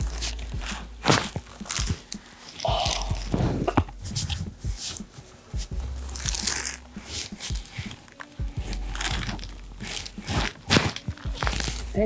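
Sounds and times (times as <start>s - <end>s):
sharp pops from body adjustments: 0.0s - 11.9s
quiet background music: 0.0s - 12.0s
rustling of clothing: 0.0s - 12.0s.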